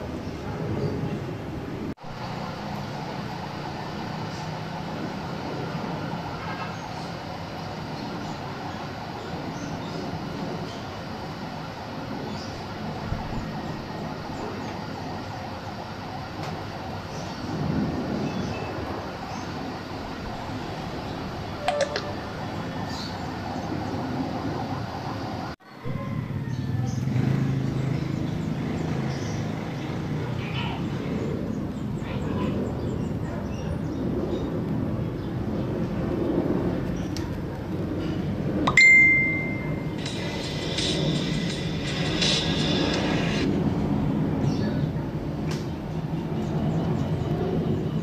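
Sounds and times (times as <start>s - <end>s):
jet engines roaring overhead: 0.0s - 48.0s.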